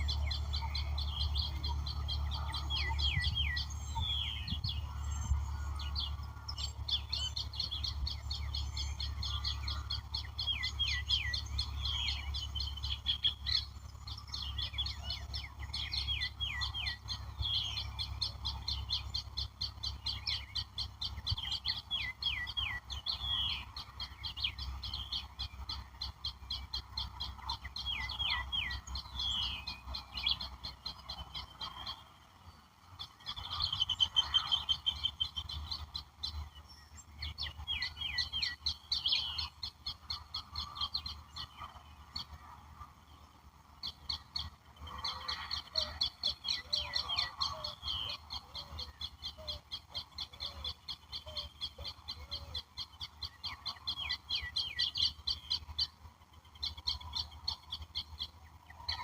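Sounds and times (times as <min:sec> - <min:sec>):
bird trill: 0:00.0 - 0:32.2, 0:32.9 - 0:59.0
birds chirping and singing: 0:00.0 - 0:59.0.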